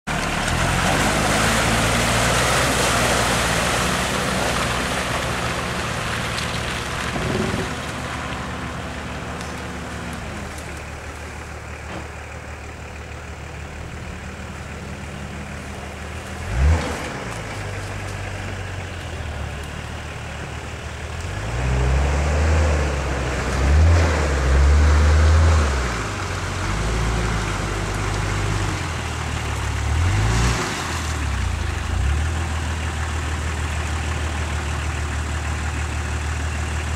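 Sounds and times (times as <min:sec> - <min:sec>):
off-road vehicle engine revving: 0:00.1 - 0:11.1, 0:13.9 - 0:36.9.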